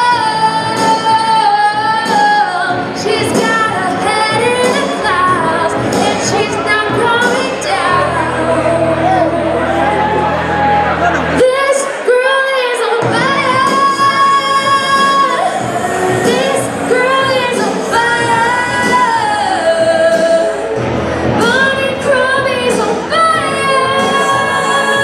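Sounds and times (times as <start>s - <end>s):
woman singing: 0.0s - 10.2s, 11.3s - 25.0s.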